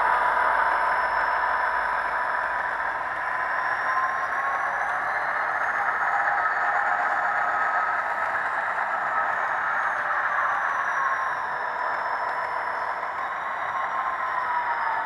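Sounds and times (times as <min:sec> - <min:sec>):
diesel locomotive running: 0:00.0 - 0:15.0.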